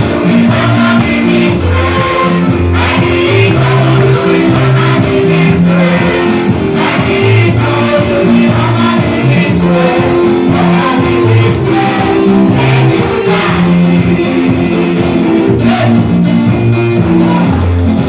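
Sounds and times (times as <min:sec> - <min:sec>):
bass guitar: 0:00.0 - 0:18.0
electric guitar: 0:00.0 - 0:18.0
live gospel band music: 0:00.0 - 0:18.0.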